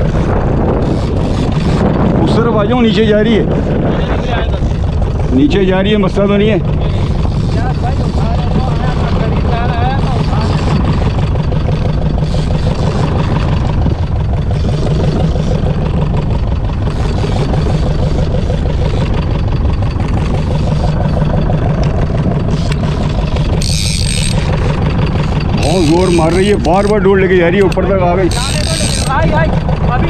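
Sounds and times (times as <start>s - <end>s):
boat diesel engine running: 0.0s - 30.0s.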